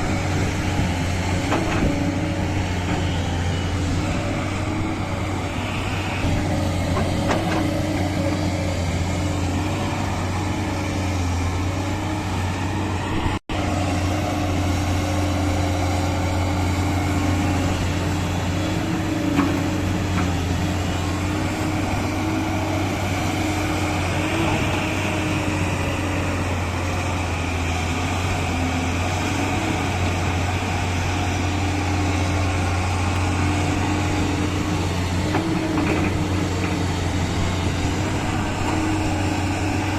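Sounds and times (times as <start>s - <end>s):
diesel machinery engine humming: 0.0s - 39.9s.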